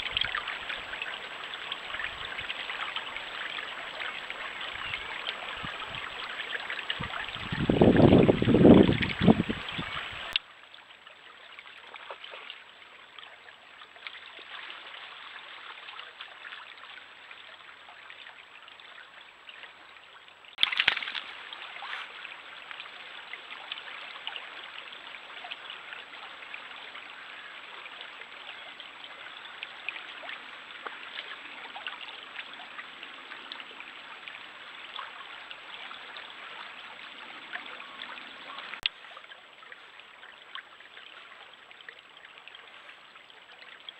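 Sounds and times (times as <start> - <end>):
stream trickling over stones: 0.0 - 43.9.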